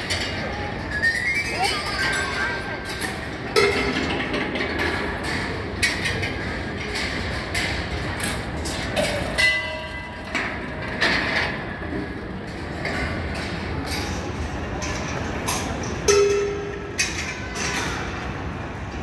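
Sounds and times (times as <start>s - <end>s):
metal balls rolling on tracks: 0.0s - 18.2s.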